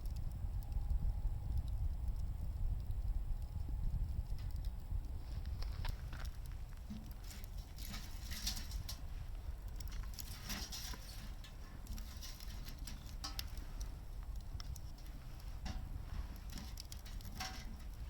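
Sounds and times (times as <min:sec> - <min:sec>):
firewood crackling and popping: 0:00.0 - 0:18.0
low fire rumble: 0:00.0 - 0:18.0.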